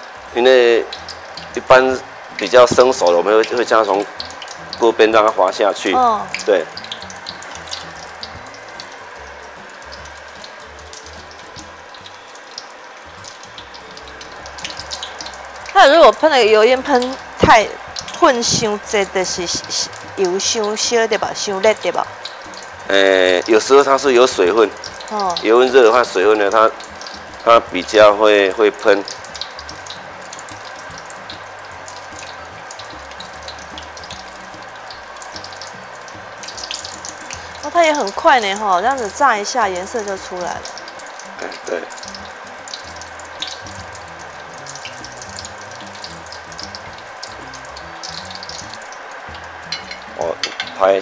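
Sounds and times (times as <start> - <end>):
food deep-frying in oil: 0.0 - 51.0
oil crackling and popping: 0.0 - 51.0.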